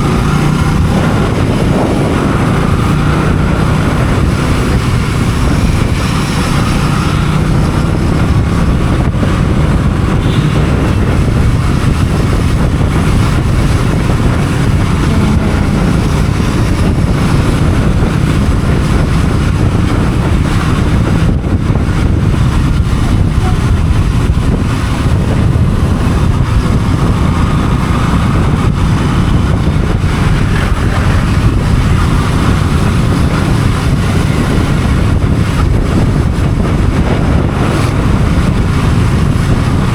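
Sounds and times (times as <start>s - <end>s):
motorcycle engine rumble: 0.0s - 39.9s
wind buffeting microphone: 0.0s - 39.9s.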